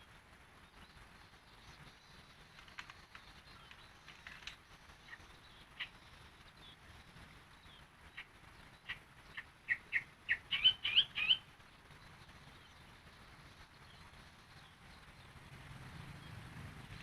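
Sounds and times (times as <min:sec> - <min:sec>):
bulbul singing: 0:00.6 - 0:17.0.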